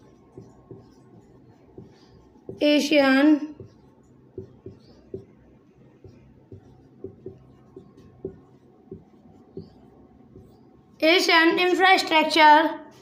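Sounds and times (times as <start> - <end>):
marker pen tapping on whiteboard: 0.0 - 10.7.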